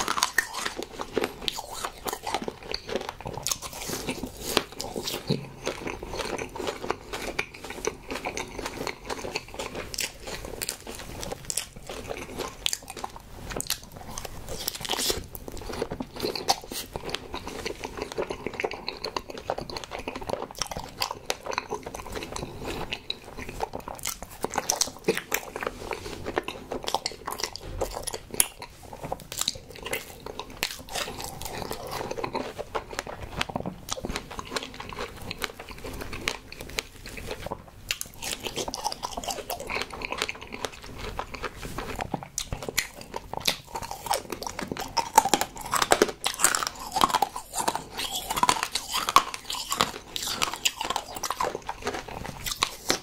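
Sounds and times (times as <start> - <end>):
chewing soft sweets: 0.0 - 53.0.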